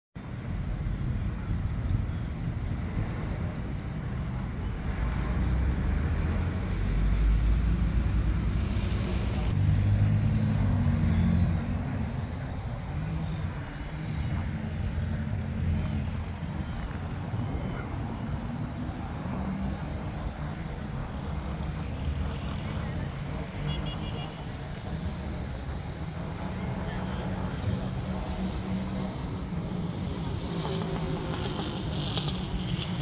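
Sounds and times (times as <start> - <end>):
vehicles passing: 0.2 - 33.0.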